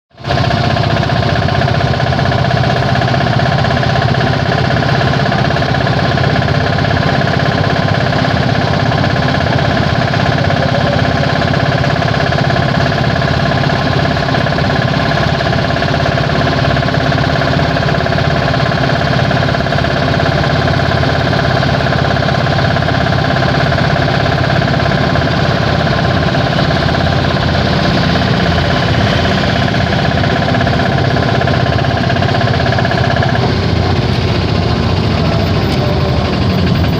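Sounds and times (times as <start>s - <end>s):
rickshaw engine running steadily: 0.1s - 36.9s.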